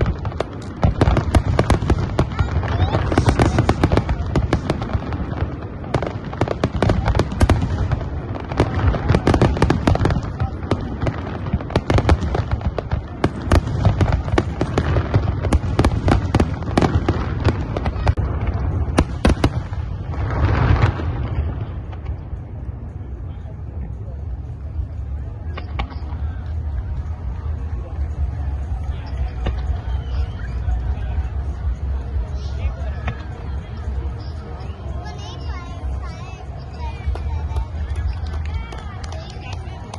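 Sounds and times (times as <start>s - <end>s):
fireworks bangs and crackling pops: 0.0s - 39.9s.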